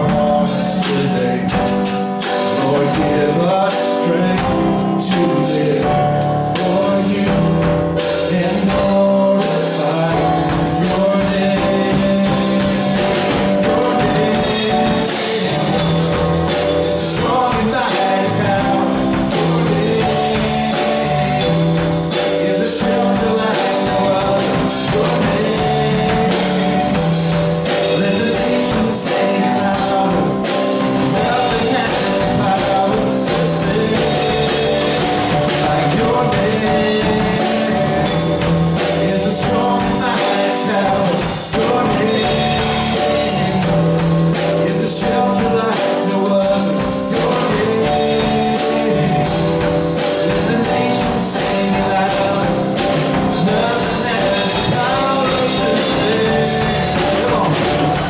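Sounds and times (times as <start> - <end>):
drum kit playing: 0.0 - 58.0
electronic keyboard: 0.0 - 58.0
man singing: 0.0 - 58.0.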